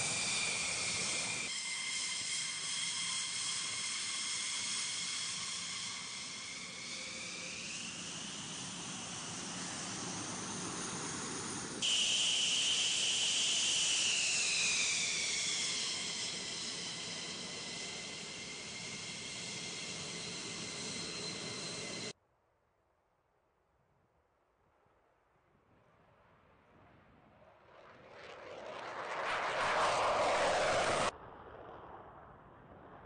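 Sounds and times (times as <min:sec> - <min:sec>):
jet engine turbine whine: 0:00.0 - 0:22.2, 0:27.7 - 0:33.0.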